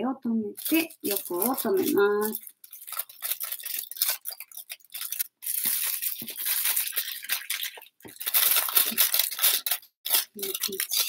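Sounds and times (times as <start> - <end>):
aluminium foil crinkling: 0.6 - 11.0.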